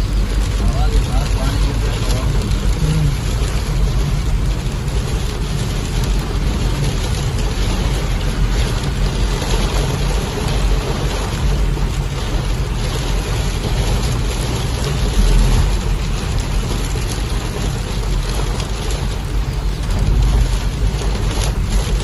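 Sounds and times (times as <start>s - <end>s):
steady rain: 0.0s - 22.0s
wind rumbling on microphone: 0.0s - 22.0s.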